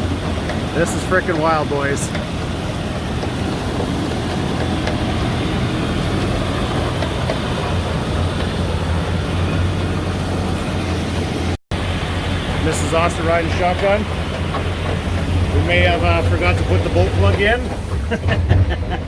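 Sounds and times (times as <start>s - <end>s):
truck engine drone: 0.0s - 19.0s.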